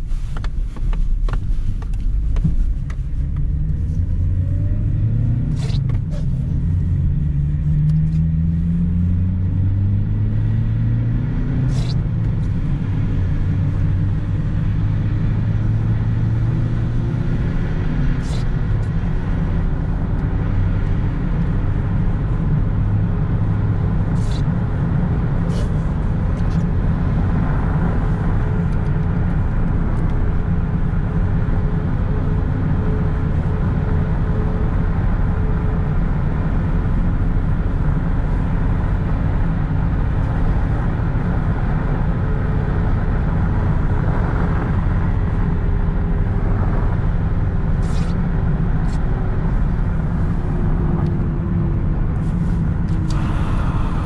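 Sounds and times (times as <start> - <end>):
car engine accelerating: 0.0 - 54.0
tyre and road noise: 0.0 - 54.0.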